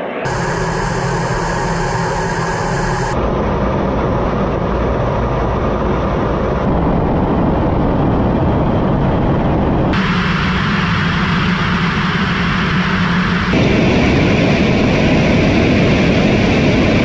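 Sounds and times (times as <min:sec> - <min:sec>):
jet aircraft rumble: 0:00.0 - 0:17.0.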